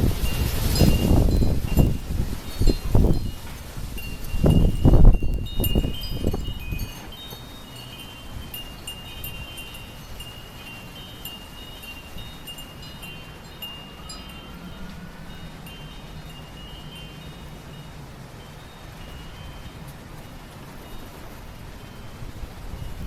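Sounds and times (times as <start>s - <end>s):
wind chimes ringing: 0.0s - 23.0s
wind gusts on microphone: 0.0s - 23.0s.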